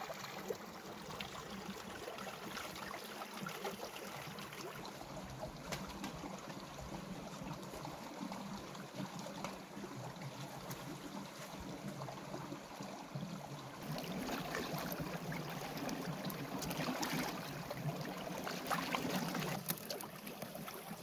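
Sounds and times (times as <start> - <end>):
stream trickling over stones: 0.0 - 21.0.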